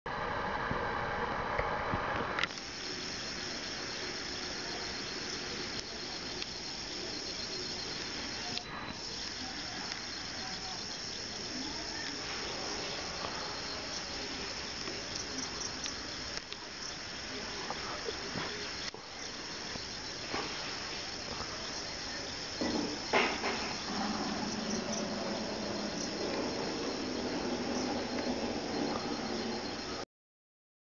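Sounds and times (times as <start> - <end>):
crickets chirping: 2.4 - 30.0
faint hiss: 2.5 - 30.0
low steady tones: 2.5 - 30.0.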